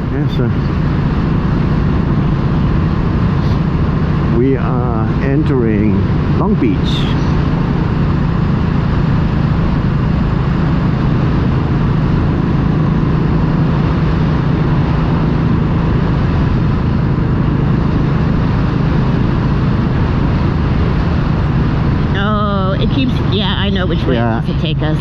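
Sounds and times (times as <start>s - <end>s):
motorcycle engine hum: 0.0s - 25.0s
wind and road noise: 0.0s - 25.0s.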